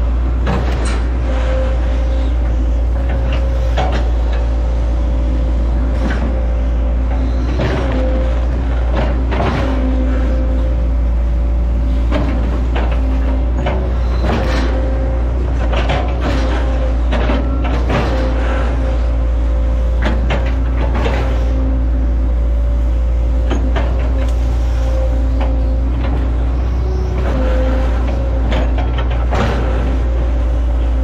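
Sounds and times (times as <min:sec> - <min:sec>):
excavator diesel engine: 0:00.0 - 0:31.0
hydraulic whine: 0:00.0 - 0:31.0.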